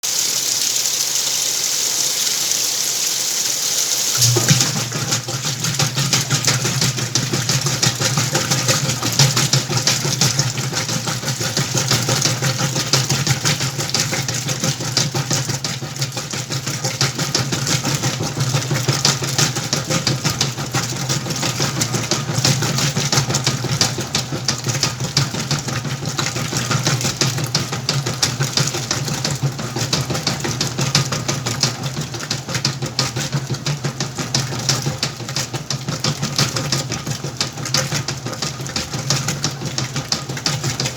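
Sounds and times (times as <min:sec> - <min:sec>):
washing machine motor hum: 0:00.0 - 0:40.9
churning drum rattle: 0:04.2 - 0:40.9.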